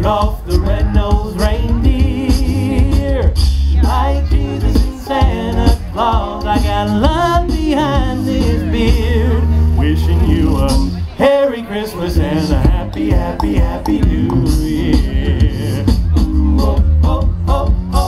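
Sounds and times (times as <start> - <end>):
low bass voice: 0.0 - 11.3, 11.9 - 18.0
male a cappella group singing: 0.0 - 18.0
vocal percussion beat: 0.0 - 18.0.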